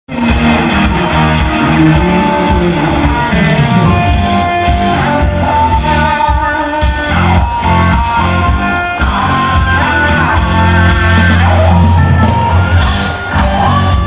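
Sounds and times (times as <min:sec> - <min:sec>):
guitar: 0:00.1 - 0:14.0
heavy bass: 0:00.1 - 0:14.0
live band music: 0:00.1 - 0:14.0.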